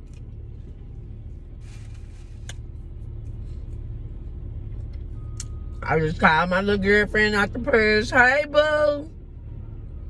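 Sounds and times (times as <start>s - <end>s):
car cabin rumble: 0.0s - 9.7s.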